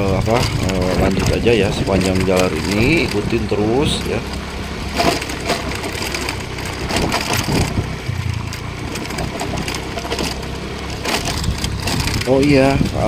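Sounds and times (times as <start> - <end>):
knocks and crunching: 0.0 - 13.0
small motorbike engine running: 0.0 - 13.0.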